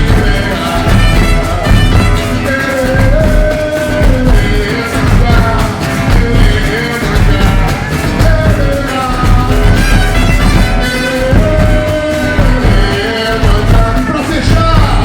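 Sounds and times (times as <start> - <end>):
heavy drums beating: 0.0 - 15.0
sliding melody line: 0.0 - 15.0.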